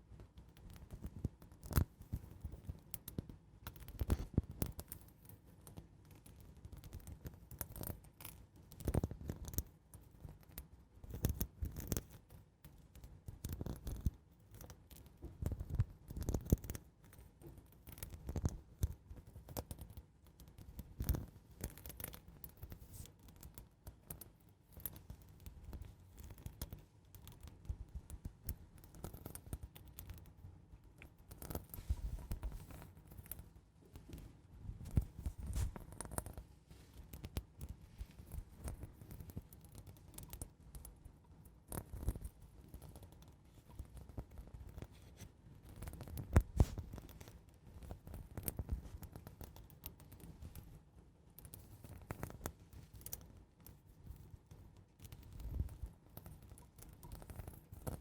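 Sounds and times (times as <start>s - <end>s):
gentle scratching: 0.1s - 58.0s.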